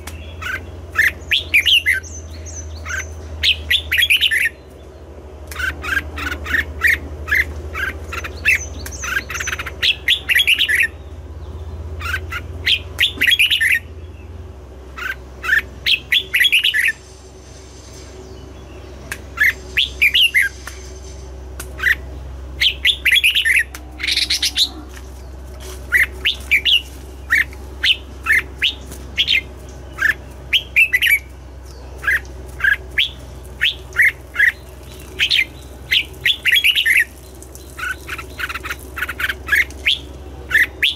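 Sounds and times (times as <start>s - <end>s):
bird chirping: 0.0s - 17.2s, 17.8s - 40.9s
steady low hum: 0.0s - 40.9s.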